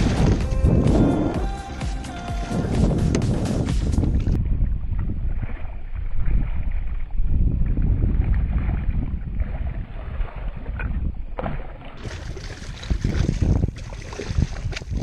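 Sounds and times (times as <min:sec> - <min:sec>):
wind buffeting microphone: 0:00.0 - 0:01.6, 0:02.2 - 0:15.0
water splashing: 0:00.0 - 0:15.0.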